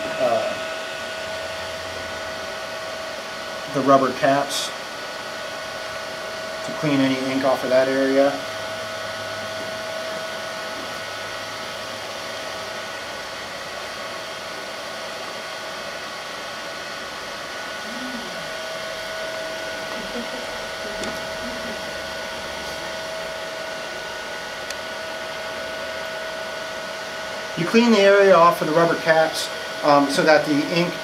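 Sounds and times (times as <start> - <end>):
faint steady whine: 0.0 - 31.0
printer fan whirring: 0.0 - 31.0.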